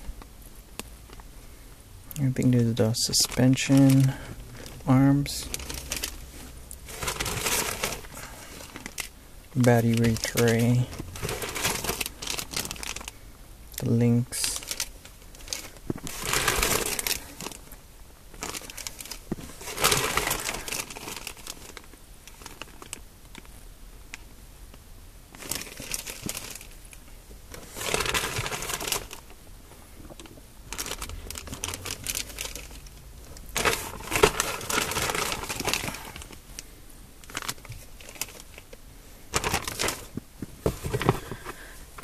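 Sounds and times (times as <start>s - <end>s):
plastic bags crinkling: 2.2s - 13.2s, 13.8s - 23.5s, 25.3s - 29.3s, 30.0s - 36.6s, 37.2s - 42.0s.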